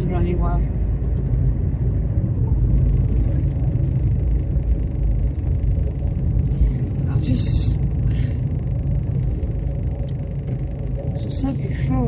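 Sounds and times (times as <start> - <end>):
low car rumble: 0.0 - 12.0.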